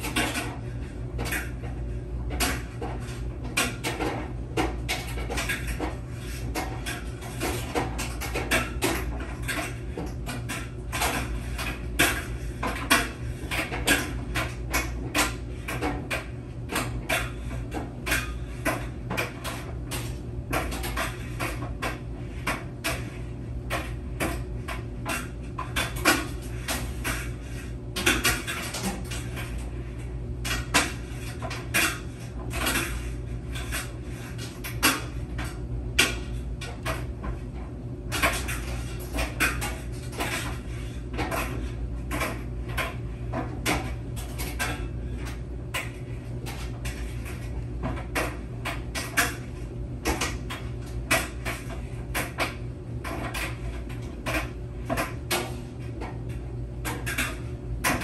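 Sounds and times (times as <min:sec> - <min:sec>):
objects clattering in tumbling drum: 0:00.0 - 0:58.0
washing machine hum: 0:00.0 - 0:58.0.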